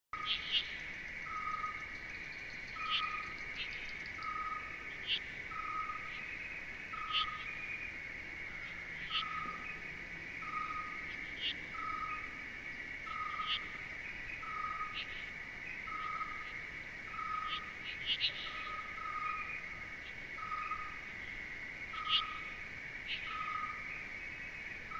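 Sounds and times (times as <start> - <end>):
insect trill: 0.2 - 24.9.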